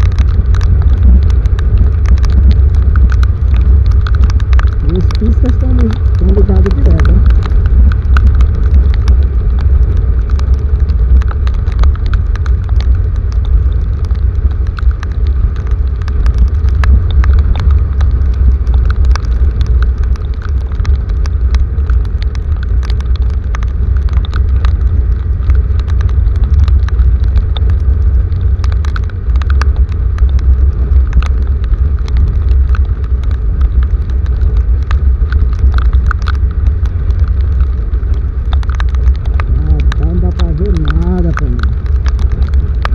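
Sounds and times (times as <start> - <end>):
heavy rain rumble: 0.0 - 42.9
rain drops clicking: 0.0 - 42.9.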